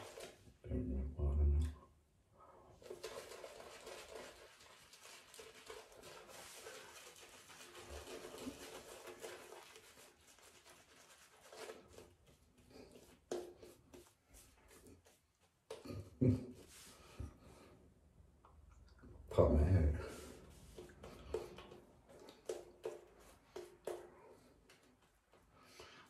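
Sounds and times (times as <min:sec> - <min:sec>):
shaving brush swishing lather: 0:00.0 - 0:00.6, 0:02.8 - 0:17.4, 0:20.0 - 0:25.9.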